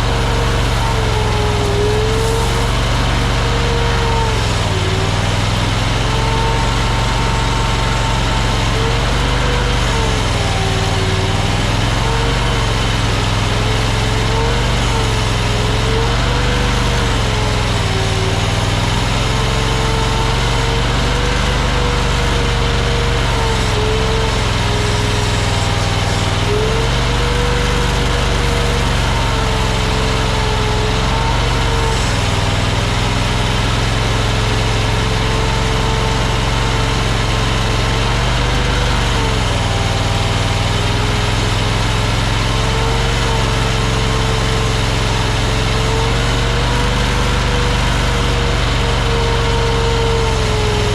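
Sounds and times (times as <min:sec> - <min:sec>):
skid steer engine whining: 0:00.0 - 0:50.9.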